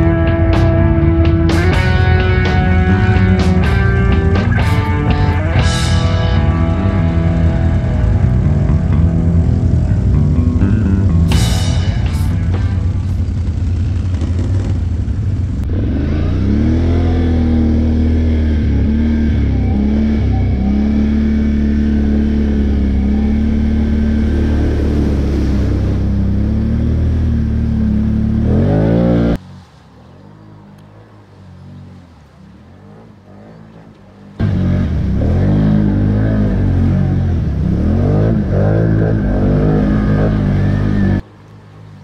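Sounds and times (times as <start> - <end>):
atv engine revving: 0.0 - 42.0
distant engine: 0.0 - 42.0.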